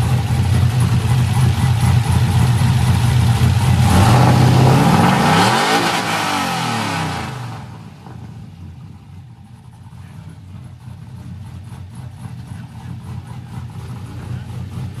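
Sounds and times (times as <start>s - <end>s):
car engine idling unevenly: 0.0s - 5.4s, 6.9s - 15.0s.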